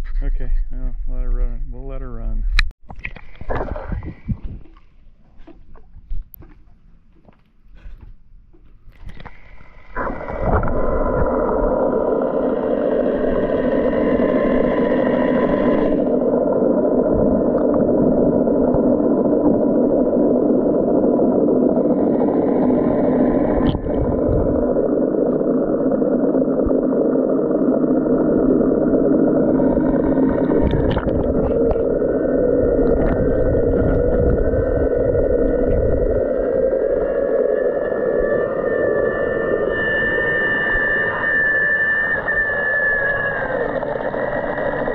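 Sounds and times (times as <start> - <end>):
underwater pump motor humming: 0.0 - 44.9.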